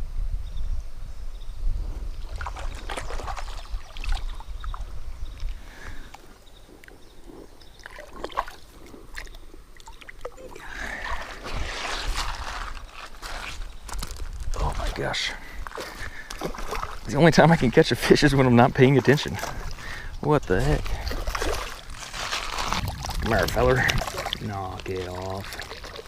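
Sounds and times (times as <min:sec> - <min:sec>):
light water sounds: 0:02.1 - 0:07.0, 0:07.8 - 0:13.6, 0:14.7 - 0:26.0.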